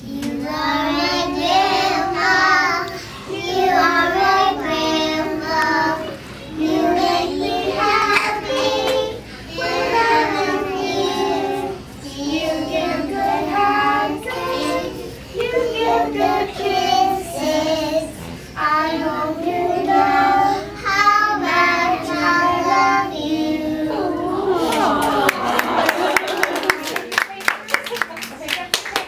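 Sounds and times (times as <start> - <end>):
children singing: 0.0 - 25.2.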